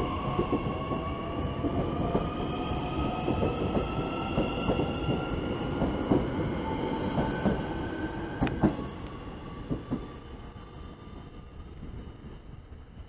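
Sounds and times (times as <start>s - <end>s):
electric train whine: 0.0s - 13.0s
train wheels rumbling: 0.0s - 13.0s.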